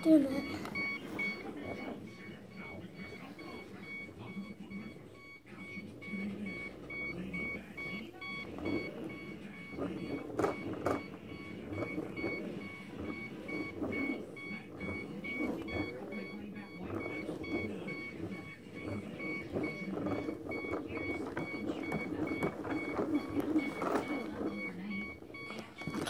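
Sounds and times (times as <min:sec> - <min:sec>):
high warning beeps: 0:00.0 - 0:26.0.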